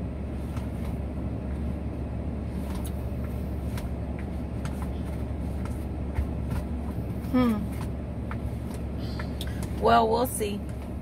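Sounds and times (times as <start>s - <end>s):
car rumble from inside: 0.0s - 11.0s.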